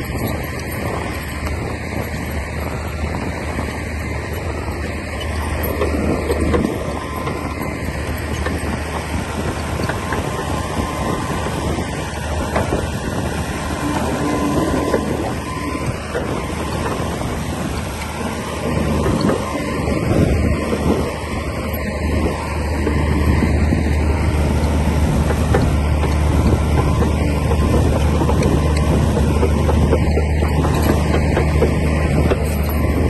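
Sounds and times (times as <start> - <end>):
bulldozer clanks: 0.0 - 33.0
bulldozer engine droning: 0.0 - 33.0.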